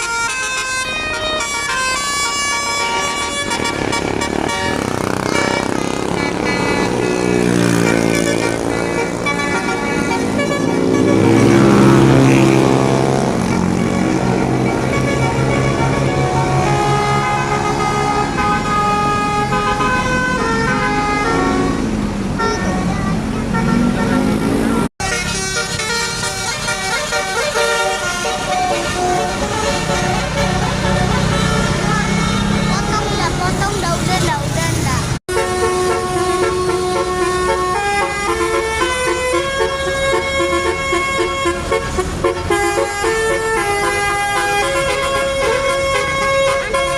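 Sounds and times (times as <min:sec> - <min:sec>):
bus horn playing a tune: 0:00.0 - 0:33.4, 0:35.2 - 0:46.9.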